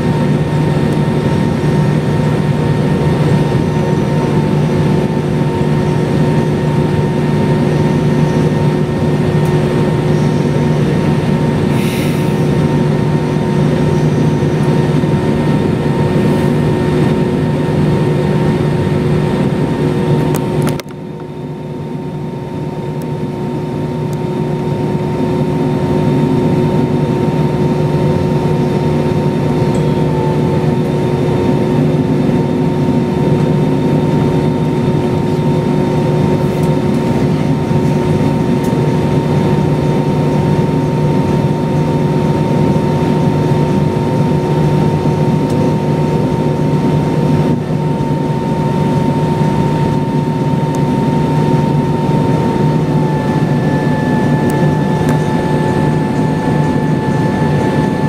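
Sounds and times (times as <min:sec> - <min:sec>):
airplane cabin rumble: 0:00.0 - 0:58.0
jet engine whine: 0:00.0 - 0:58.0.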